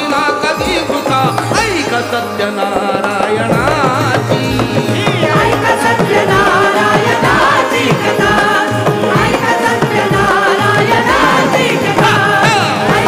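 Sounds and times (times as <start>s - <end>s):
hand drums beat: 0.0s - 13.0s.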